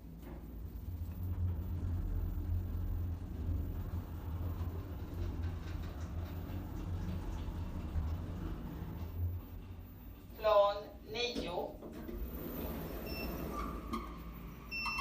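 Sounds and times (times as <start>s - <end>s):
elevator rumble and hum: 0.0s - 15.0s.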